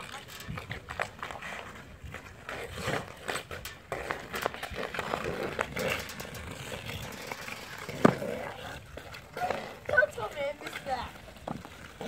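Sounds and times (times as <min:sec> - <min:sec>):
hockey sticks clacking: 0:00.0 - 0:12.0
skates scraping on ice: 0:00.0 - 0:12.0.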